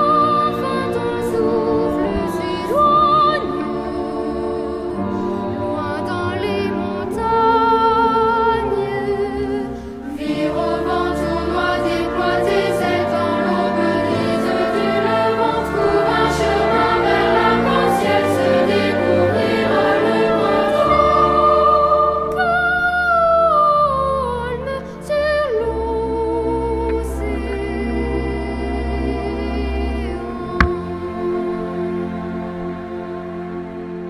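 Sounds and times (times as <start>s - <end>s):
choir singing: 0.0s - 34.0s.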